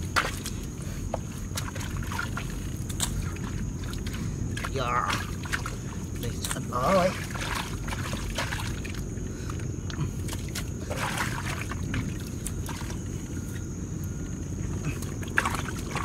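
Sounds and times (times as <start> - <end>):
hands squelching in mud: 0.0 - 13.4, 14.6 - 16.0.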